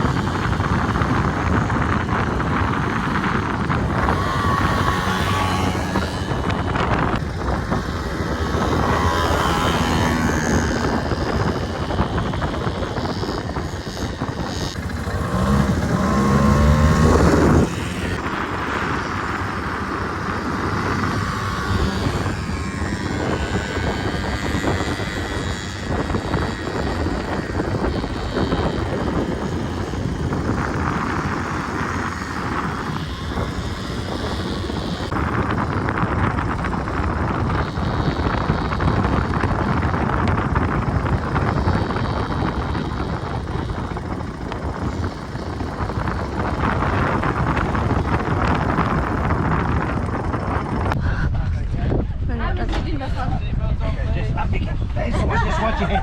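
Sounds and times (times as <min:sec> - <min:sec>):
quad bike engine revving: 0:00.0 - 0:51.0
wind noise: 0:00.0 - 0:56.0.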